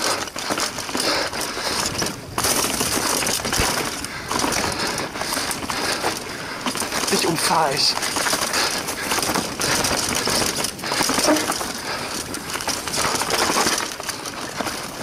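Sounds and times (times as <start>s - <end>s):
bike chain and frame rattling: 0.0s - 15.0s
bike tyres crunching over dirt: 0.0s - 15.0s.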